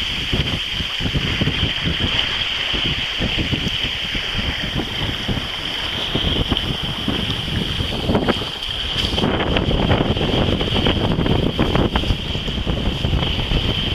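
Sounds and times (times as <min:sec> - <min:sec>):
rush of wind and water: 0:00.0 - 0:13.9
wind buffeting microphone: 0:00.0 - 0:13.9.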